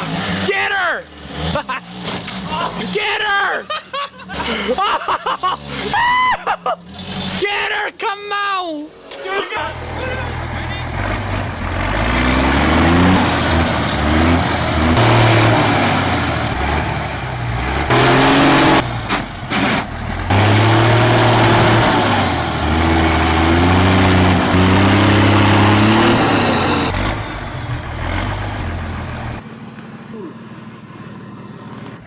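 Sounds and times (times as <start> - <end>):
diesel truck engine revving: 0.0 - 7.4, 9.6 - 32.0.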